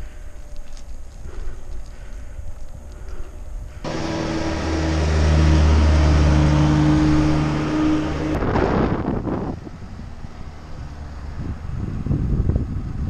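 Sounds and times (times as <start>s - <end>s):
vehicle engine drone: 0.0s - 13.0s
tyre and air rush: 1.2s - 13.0s.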